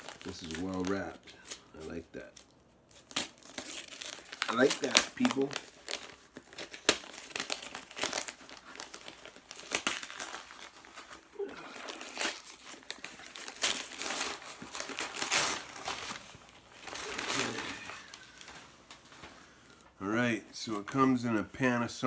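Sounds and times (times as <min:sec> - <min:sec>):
packaging crinkling and ripping: 0:00.0 - 0:19.8.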